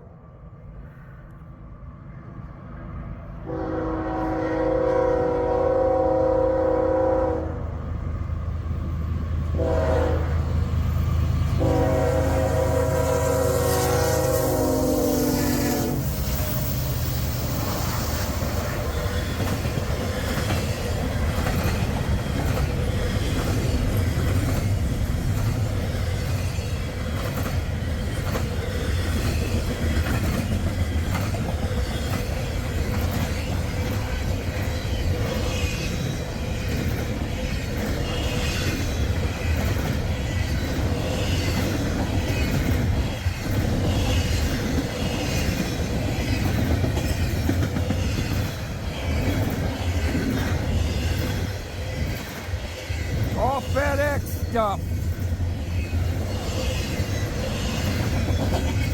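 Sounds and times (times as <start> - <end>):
freight train rumbling: 0.0 - 58.9.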